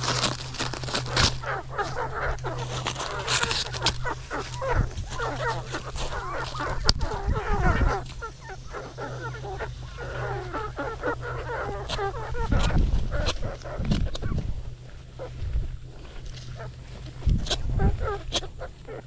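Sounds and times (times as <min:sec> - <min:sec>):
chickens clucking and squawking: 0:00.0 - 0:19.0
corn husks rustling: 0:00.0 - 0:19.0.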